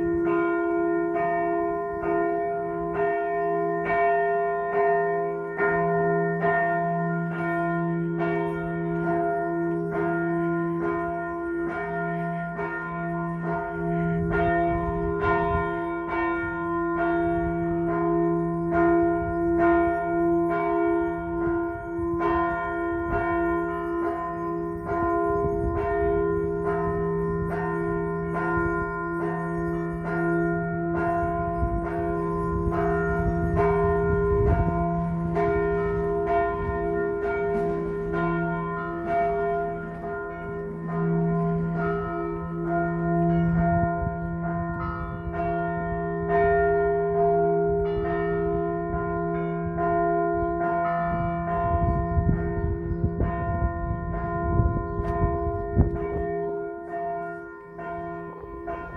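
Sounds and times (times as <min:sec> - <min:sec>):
church bells pealing: 0:00.0 - 0:58.9.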